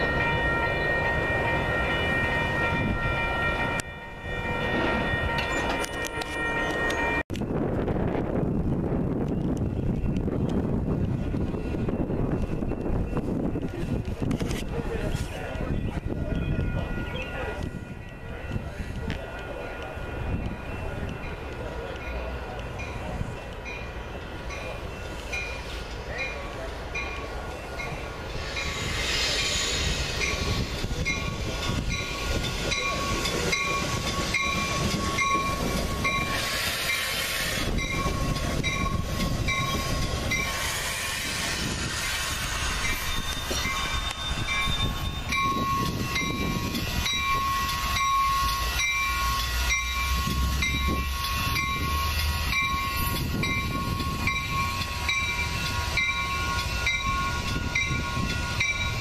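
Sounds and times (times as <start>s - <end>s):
crossing warning bells dinging: 0.0s - 59.0s
train rumbling over rails: 0.0s - 59.0s.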